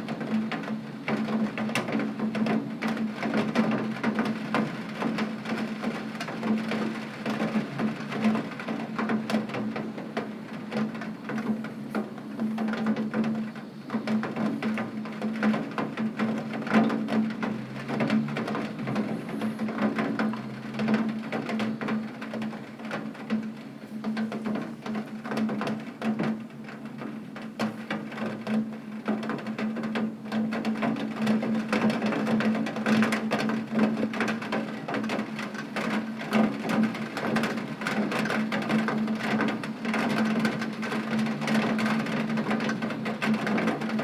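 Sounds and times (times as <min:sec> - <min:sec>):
heavy rain on window glass: 0:00.0 - 0:44.0.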